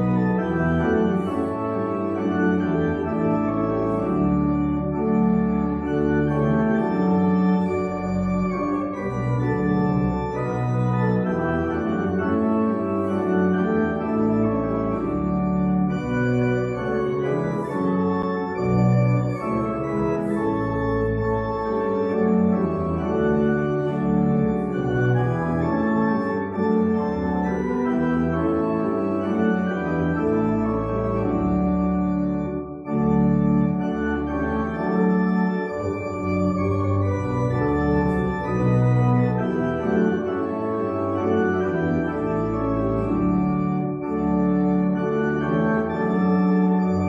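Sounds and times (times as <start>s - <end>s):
organ playing held chords: 0.0s - 47.0s.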